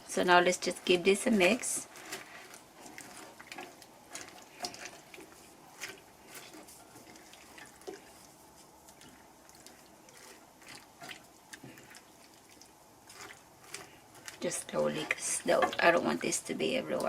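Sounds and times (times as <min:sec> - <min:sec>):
wet sloshing in a pan: 0:00.0 - 0:17.0.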